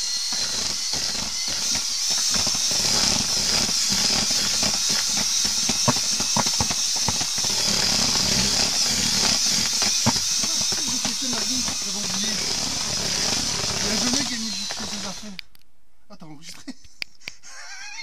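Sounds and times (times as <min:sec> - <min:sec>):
power drill motor whine: 0:00.0 - 0:15.4.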